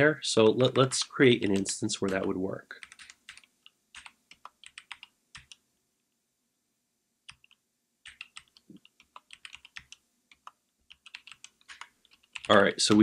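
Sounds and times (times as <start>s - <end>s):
computer keyboard typing: 0.4s - 5.6s, 7.3s - 13.0s.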